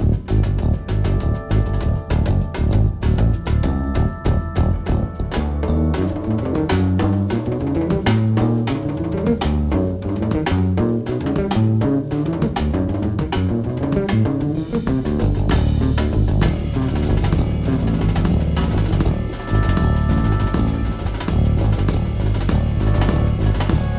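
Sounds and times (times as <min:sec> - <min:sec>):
bass line: 0:00.0 - 0:23.9
drum kit beat: 0:00.0 - 0:23.9.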